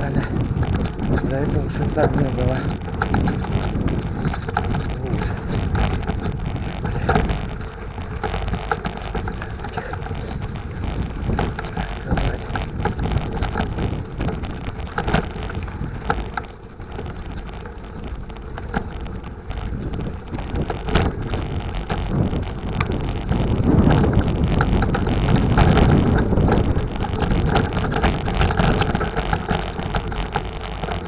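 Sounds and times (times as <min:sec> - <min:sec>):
bicycle tyres rumbling on dirt: 0:00.0 - 0:31.0
bike rattling and clicking: 0:00.0 - 0:31.0
wind buffeting microphone: 0:00.0 - 0:31.0.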